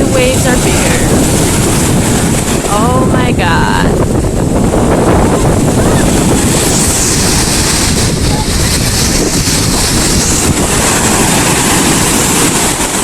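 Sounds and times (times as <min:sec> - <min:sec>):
sea waves washing on beach: 0:00.0 - 0:13.0
wind buffeting microphone: 0:00.0 - 0:13.0.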